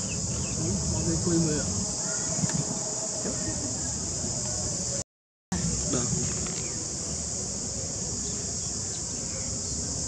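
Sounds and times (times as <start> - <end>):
high-pitched insect drone: 0.0 - 5.0, 5.6 - 10.0.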